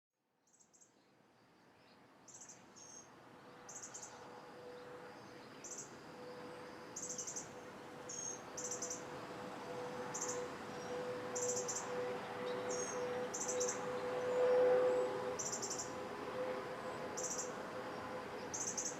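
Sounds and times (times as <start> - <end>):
insects chirping in buzzy bursts: 3.7 - 18.9.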